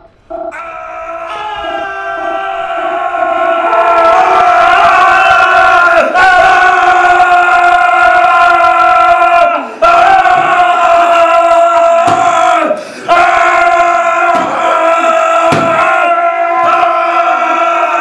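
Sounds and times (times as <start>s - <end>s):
voices yelling on one pitch: 0.6s - 18.0s.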